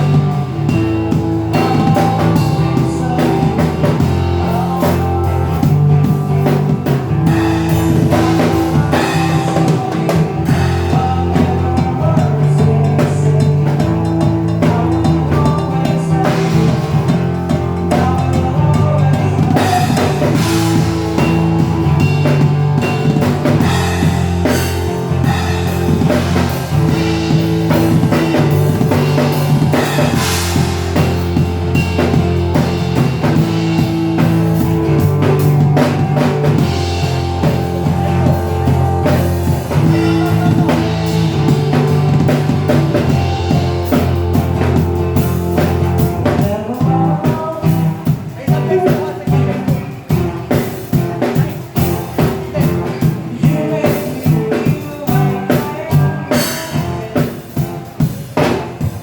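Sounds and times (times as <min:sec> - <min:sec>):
band playing instrumental: 0:00.0 - 0:59.0
bass notes: 0:00.0 - 0:59.0
drum kit: 0:00.0 - 0:59.0.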